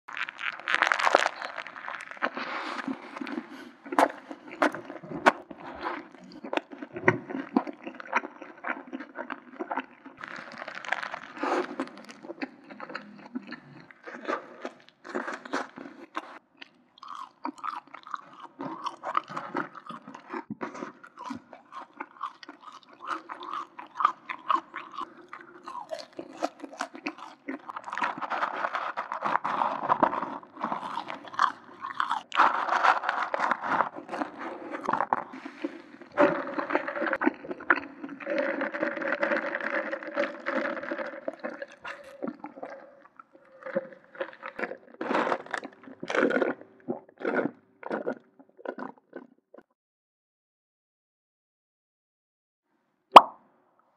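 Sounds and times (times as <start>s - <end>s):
chewing crisp fries: 0.1s - 49.7s.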